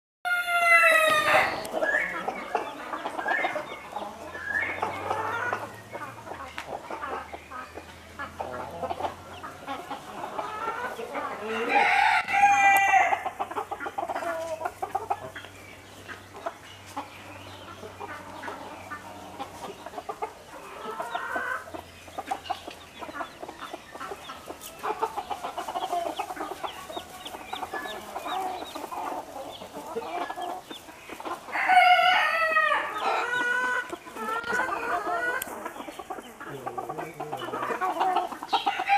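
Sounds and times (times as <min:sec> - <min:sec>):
chicks peeping: 0:00.3 - 0:38.9
hens clucking: 0:00.3 - 0:38.9.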